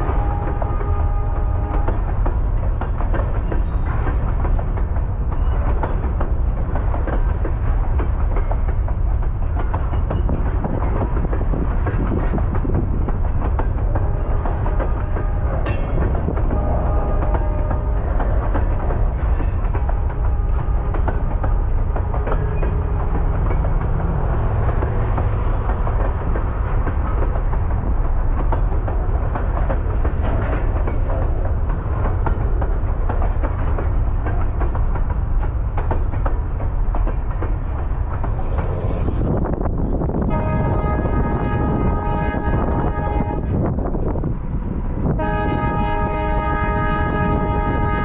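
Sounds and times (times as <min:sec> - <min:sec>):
train rolling on track: 0:00.0 - 0:48.0
wheels clicking on rails: 0:00.0 - 0:48.0.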